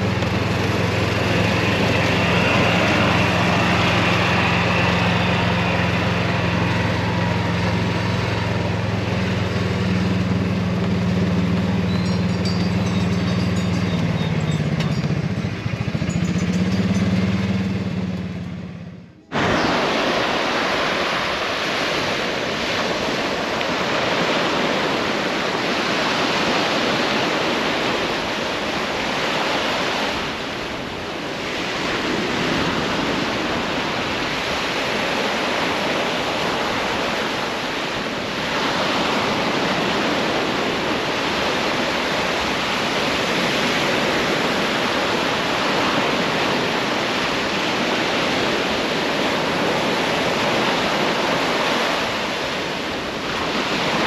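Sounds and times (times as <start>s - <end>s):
surf breaking on a beach: 0.0s - 18.5s, 19.3s - 54.0s.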